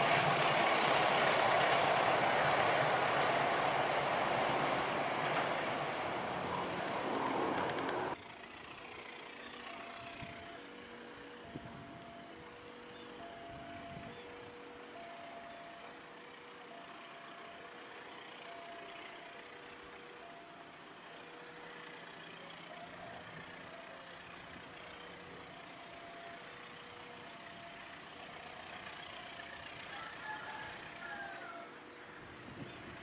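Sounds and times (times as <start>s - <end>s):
distant diesel locomotive rumble: 0.0s - 33.0s.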